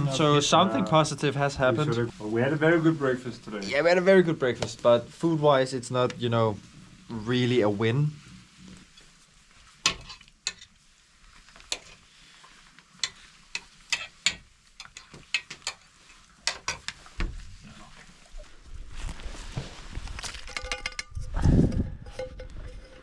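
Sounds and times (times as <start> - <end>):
wood fire crackling and popping: 0.0 - 22.2.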